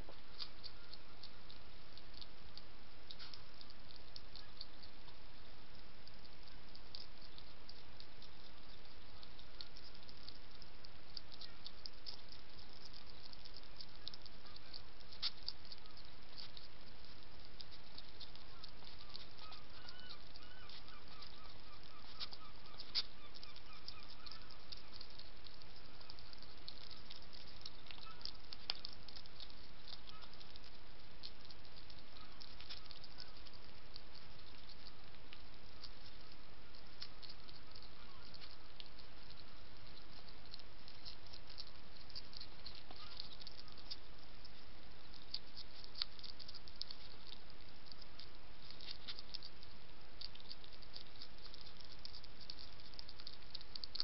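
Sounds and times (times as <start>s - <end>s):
hedgehog crunching biscuits: 0.0s - 54.0s.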